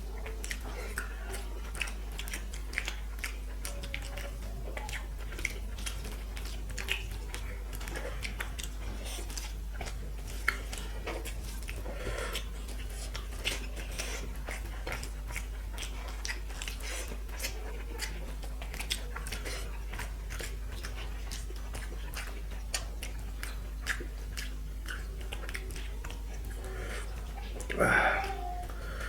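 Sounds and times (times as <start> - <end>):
chewing and eating sounds: 0.0 - 29.0
faint steady hum: 0.0 - 29.0.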